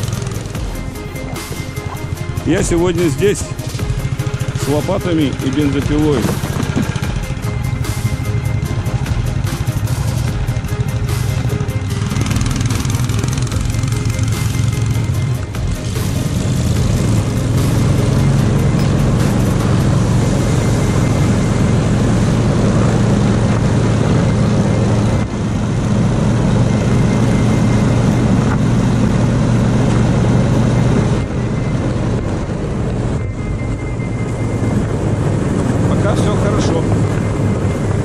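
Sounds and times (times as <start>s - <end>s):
engine running under load: 0.0s - 38.0s.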